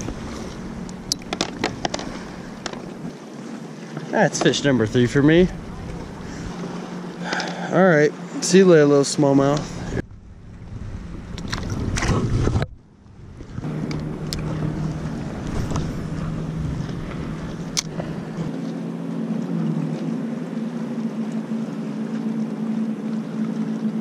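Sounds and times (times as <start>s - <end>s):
boat motor hum: 0.0s - 24.0s
light wind: 0.0s - 24.0s
water splashing: 0.0s - 24.0s.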